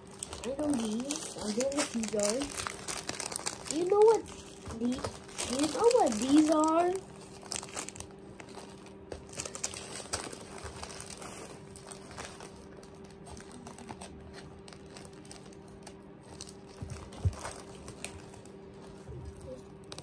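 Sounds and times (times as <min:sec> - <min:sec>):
faint low hum: 0:00.0 - 0:20.0
plastic wrapping crinkling: 0:00.0 - 0:20.0.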